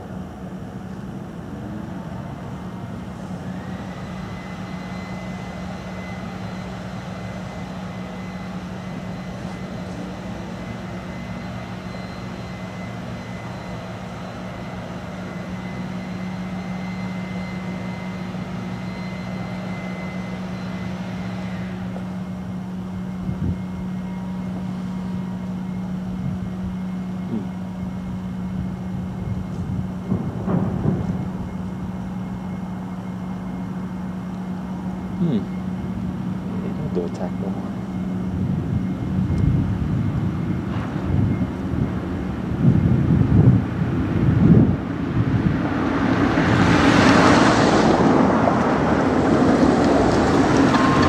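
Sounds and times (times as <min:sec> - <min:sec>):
higher whine: 0:00.0 - 0:51.0
warning siren steady tone: 0:00.0 - 0:51.0.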